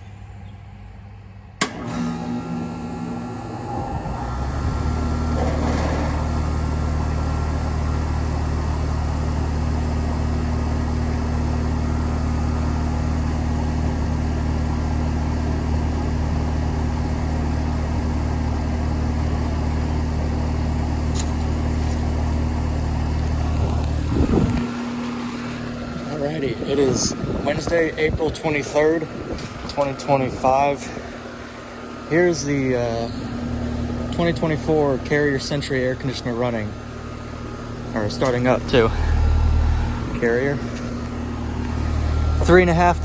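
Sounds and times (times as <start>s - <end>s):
compressor humming: 1.2s - 43.0s
condenser fan rushing: 1.5s - 43.0s.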